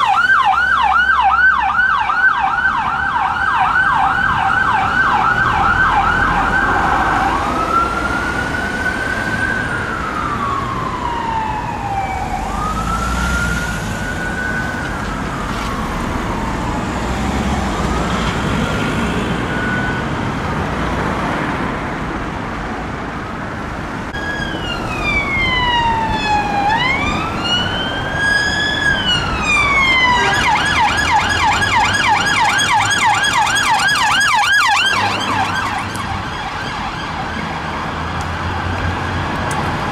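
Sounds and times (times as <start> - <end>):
second siren sweeping: 0.0 - 20.2, 24.1 - 39.5
ambulance siren: 0.0 - 20.4, 24.1 - 39.9
police car siren: 0.0 - 20.4, 23.2 - 39.9.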